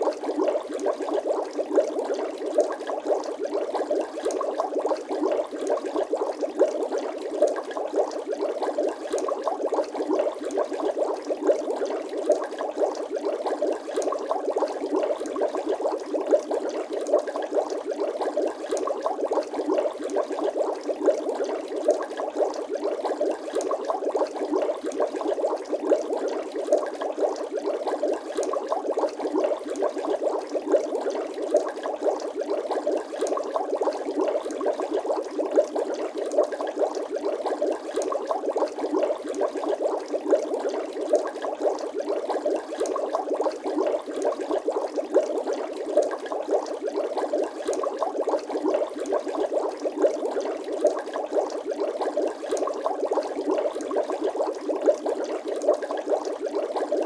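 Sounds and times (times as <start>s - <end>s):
water bubbling: 0.0s - 57.0s.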